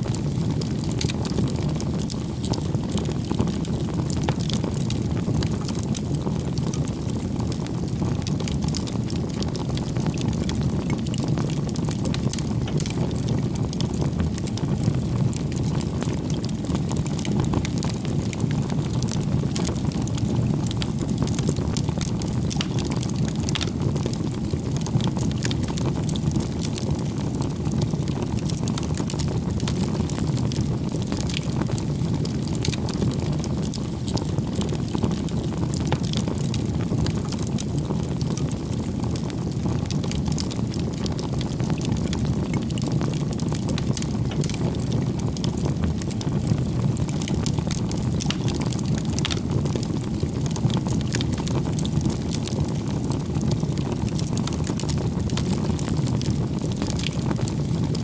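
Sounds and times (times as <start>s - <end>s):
campfire flames rushing: 0.0s - 58.0s
wood crackling and popping: 0.0s - 58.0s.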